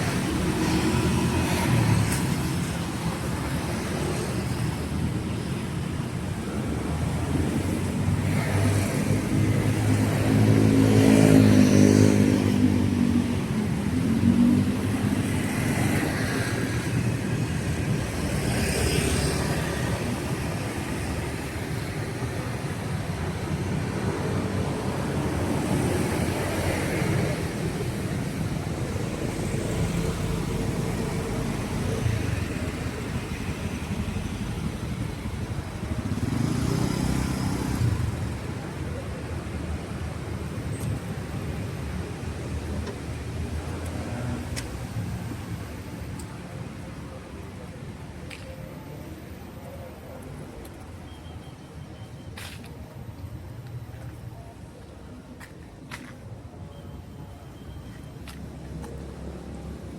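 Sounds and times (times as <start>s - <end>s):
vehicles passing on street: 0.0s - 59.9s.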